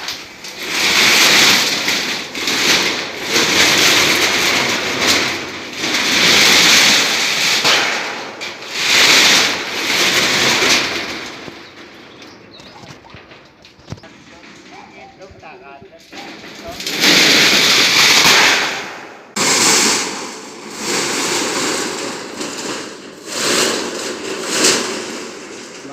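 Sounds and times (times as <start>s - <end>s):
arc welding crackling: 0.0s - 25.9s.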